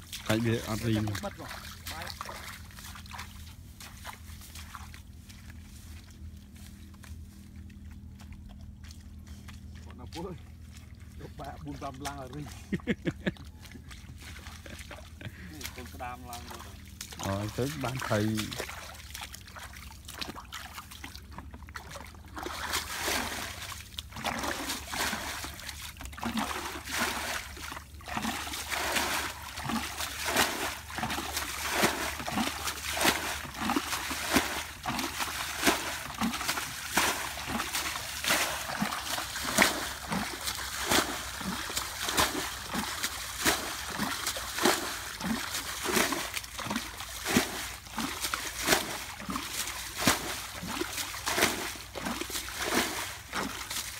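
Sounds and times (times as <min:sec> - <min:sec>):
water splashing and dripping: 0:00.0 - 0:53.9.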